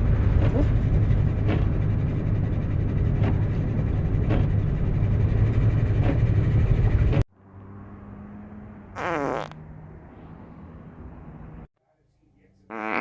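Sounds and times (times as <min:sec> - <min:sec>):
low engine rumble: 0:00.0 - 0:12.6.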